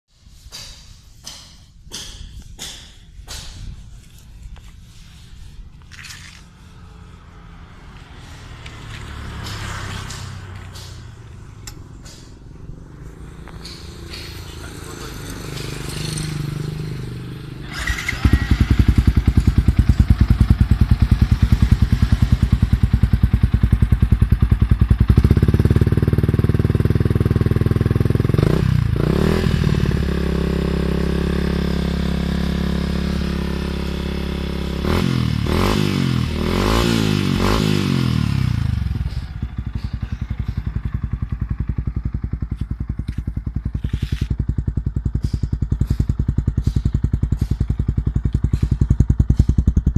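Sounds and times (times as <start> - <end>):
motorcycle engine idling and revving: 0.2 - 49.9.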